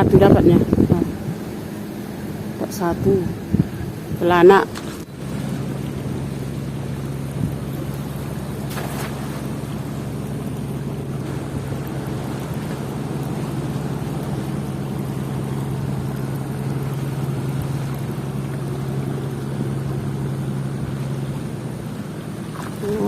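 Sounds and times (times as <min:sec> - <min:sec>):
wind and water rushing: 0:00.0 - 0:23.0.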